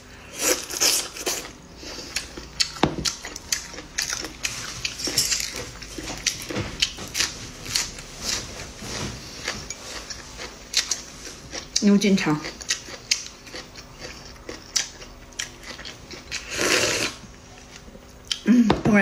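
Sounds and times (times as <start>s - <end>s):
chewing and crunching food: 0.4s - 18.4s.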